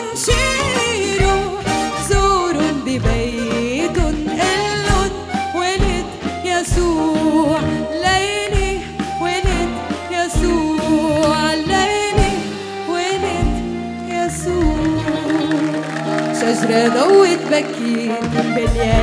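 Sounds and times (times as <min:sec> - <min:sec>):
pop backing track with drum beat: 0:00.0 - 0:19.0
woman singing into microphone: 0:00.0 - 0:19.0.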